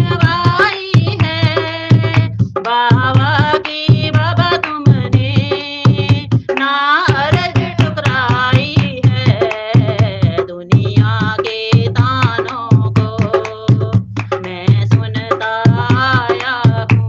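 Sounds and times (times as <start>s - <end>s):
hand drum rhythm: 0.0s - 17.0s
person singing devotional song: 0.0s - 17.0s.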